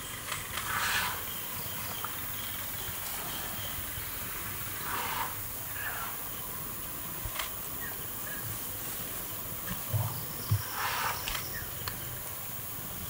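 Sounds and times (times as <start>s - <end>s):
insects hissing: 0.0s - 13.0s.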